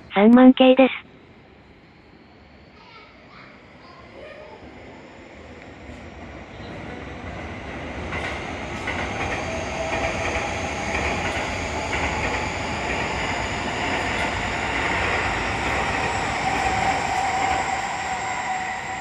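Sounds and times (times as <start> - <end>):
train wheels rumbling on track: 1.2 - 19.0.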